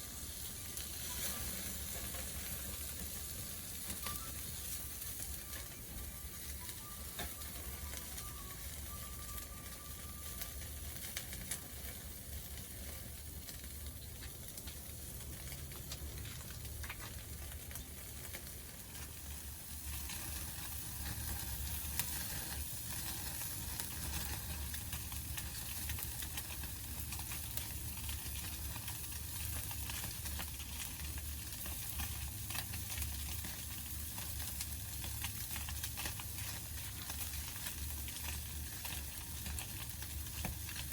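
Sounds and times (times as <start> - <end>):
campfire crackling and popping: 1.9 - 40.9.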